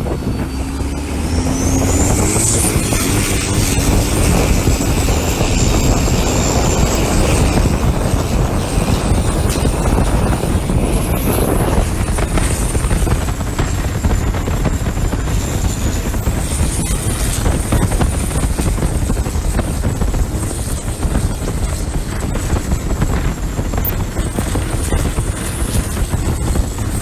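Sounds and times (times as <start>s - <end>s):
diesel boat engine rumbling: 0.0s - 27.0s
high turbo whine: 0.0s - 27.0s.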